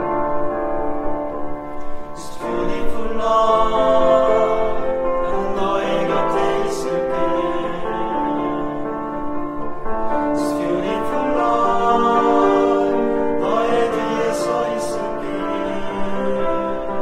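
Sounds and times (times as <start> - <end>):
piano accompaniment: 0.0 - 17.0
male choir singing in harmony: 2.1 - 17.0.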